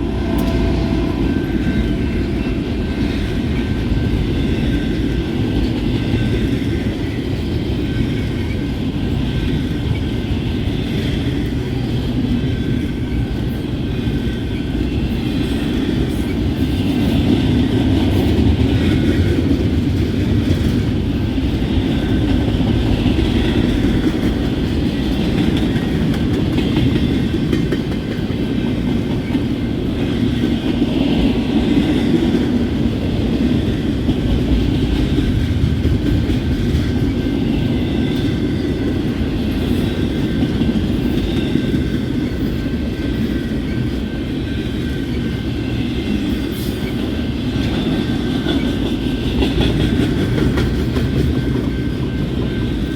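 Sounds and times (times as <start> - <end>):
train wheels on track: 0.0 - 52.9.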